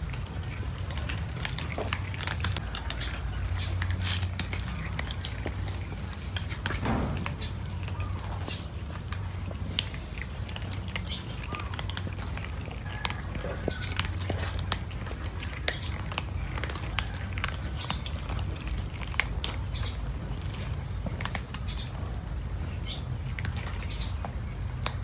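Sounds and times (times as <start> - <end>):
cats crunching dry kibble: 0.0 - 25.0.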